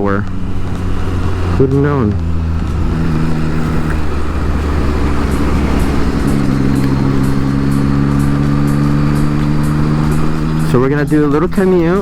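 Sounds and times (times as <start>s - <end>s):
loud low rumble: 0.0s - 12.0s
motorcycle engine running: 0.0s - 12.0s
faint regular ticking: 0.1s - 11.8s.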